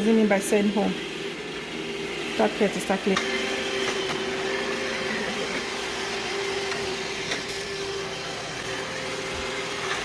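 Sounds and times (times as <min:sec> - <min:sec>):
robot vacuum humming: 0:00.0 - 0:10.0.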